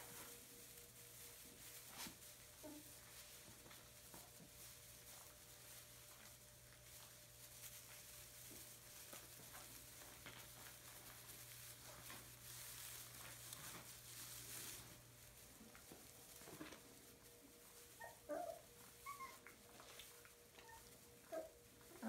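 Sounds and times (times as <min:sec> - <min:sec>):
rustling of dry straw: 0:00.0 - 0:22.0.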